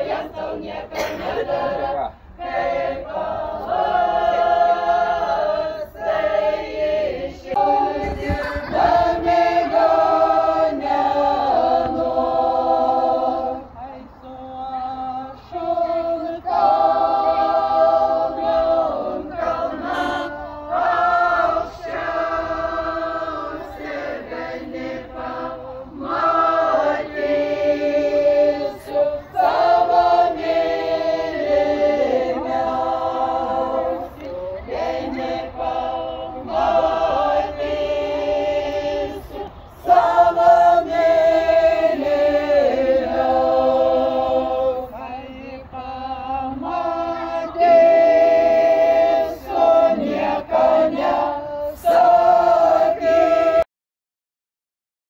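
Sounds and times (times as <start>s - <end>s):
group singing unaccompanied: 0.0s - 53.7s.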